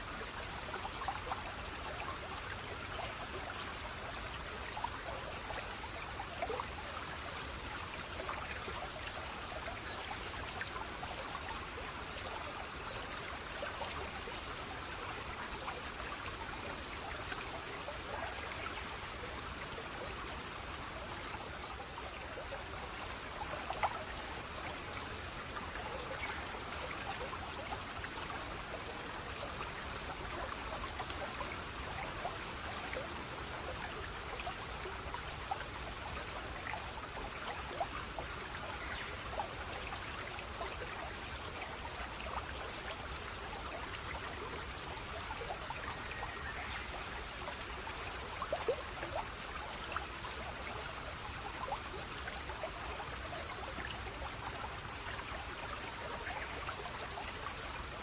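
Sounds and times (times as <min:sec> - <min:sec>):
stream trickling and burbling: 0:00.0 - 0:58.0
water splashes and drips: 0:00.0 - 0:58.0.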